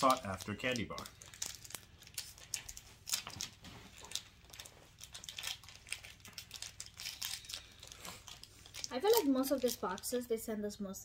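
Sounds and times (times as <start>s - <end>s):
wrapper crinkling: 0.0s - 10.5s.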